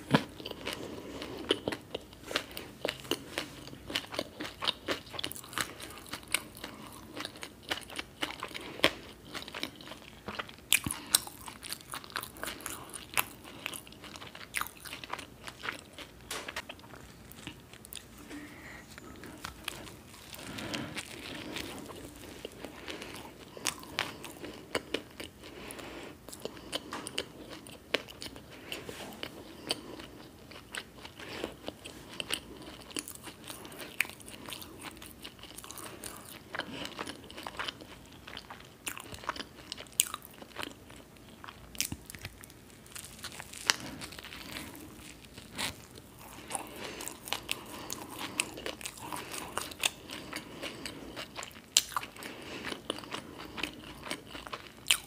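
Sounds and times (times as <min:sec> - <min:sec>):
biting and chewing crunchy food: 0:00.0 - 0:55.0.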